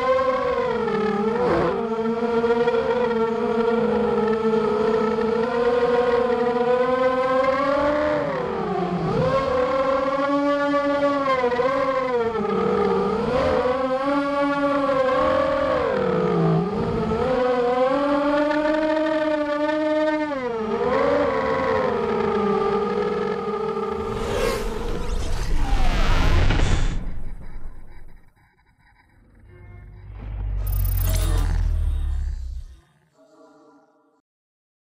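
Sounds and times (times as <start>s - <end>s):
quadcopter motors whining: 0.0s - 32.8s.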